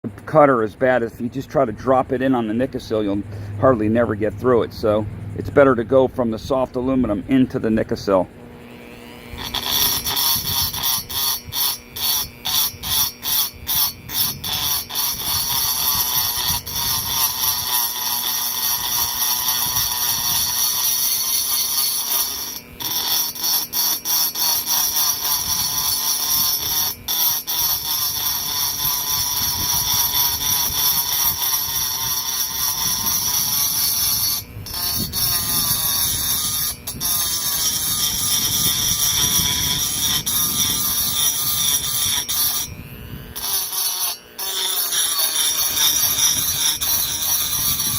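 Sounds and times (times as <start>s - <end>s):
rotary grinder whining on metal: 0.0s - 47.9s.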